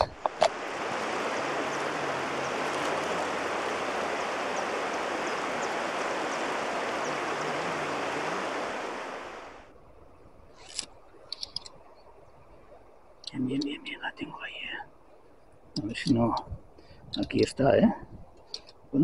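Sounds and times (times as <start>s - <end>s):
rushing river water: 0.0s - 17.5s.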